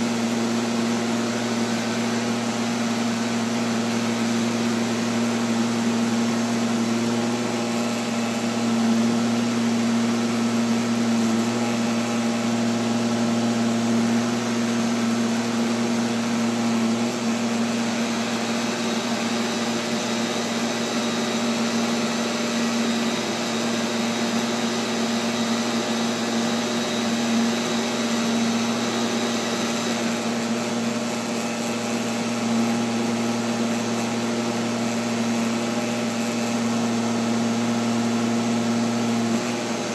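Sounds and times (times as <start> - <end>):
robotic vacuum cleaner running: 0.0 - 39.9.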